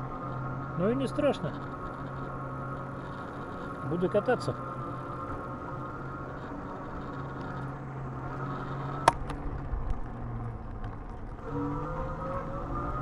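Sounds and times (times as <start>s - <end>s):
electric motor whining: 0.0s - 10.2s, 11.3s - 13.0s.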